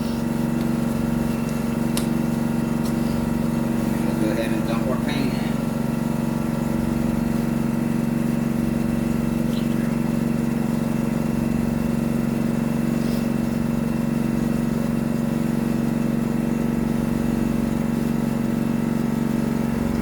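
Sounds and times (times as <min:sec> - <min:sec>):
air compressor and fan humming: 0:00.0 - 0:20.0.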